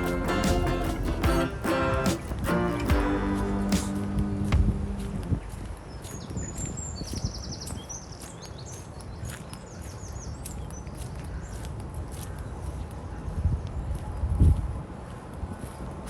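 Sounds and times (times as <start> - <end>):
light footsteps: 0.0 - 13.0
wind buffeting microphone: 0.0 - 16.0.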